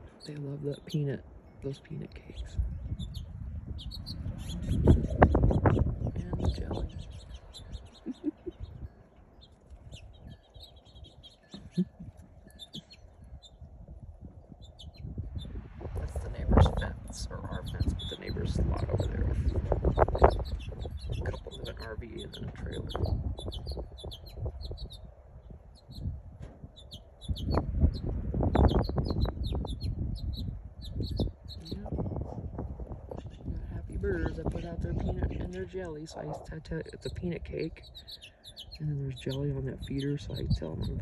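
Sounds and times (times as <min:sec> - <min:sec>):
songbirds chirping: 0:00.0 - 0:41.0
wind rumble on microphone: 0:00.0 - 0:41.0.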